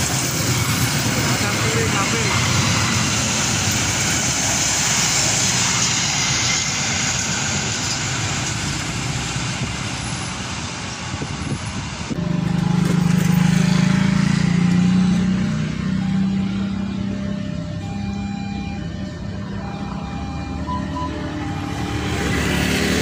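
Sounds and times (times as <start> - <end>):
train wheels rushing on rails: 0.0 - 17.7, 18.8 - 23.0.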